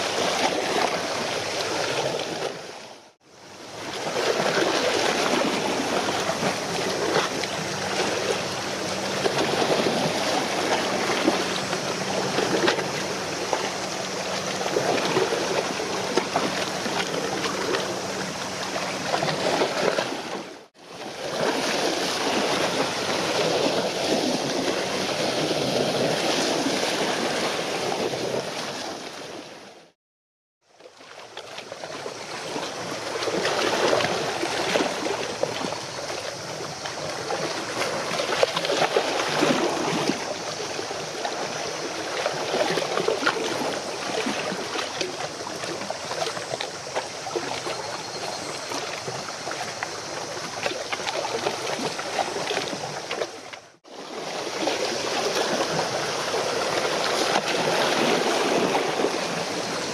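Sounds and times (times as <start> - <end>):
rushing water: 0.0 - 30.0, 30.7 - 59.9
wind: 0.0 - 30.0, 30.6 - 59.9.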